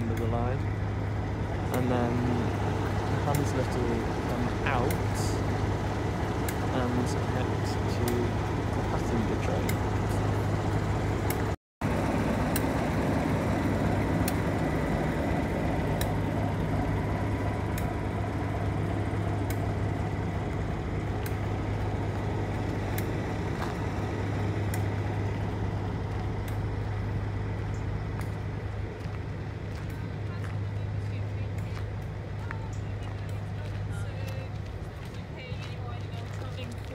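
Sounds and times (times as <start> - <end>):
diesel engine idling drone: 0.0 - 36.9.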